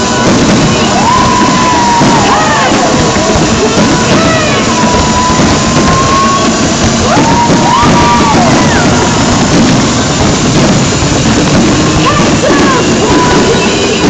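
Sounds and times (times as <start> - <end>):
crowd noise: 0.0 - 14.0.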